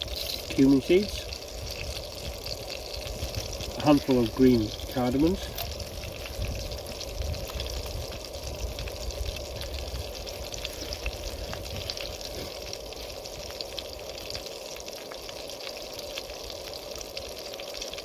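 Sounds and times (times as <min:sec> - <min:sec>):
small crackling pops: 0:00.0 - 0:18.0
spices sizzling in hot oil: 0:00.0 - 0:18.0.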